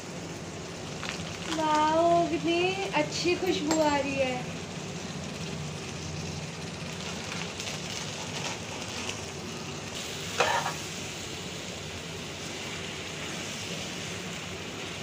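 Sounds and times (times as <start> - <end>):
food sizzling in metal pan: 0.4 - 15.0.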